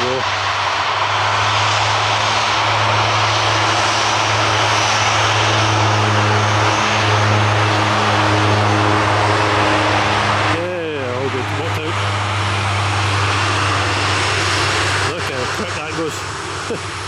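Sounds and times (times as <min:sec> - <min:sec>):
airliner engines taking off: 0:00.0 - 0:17.0.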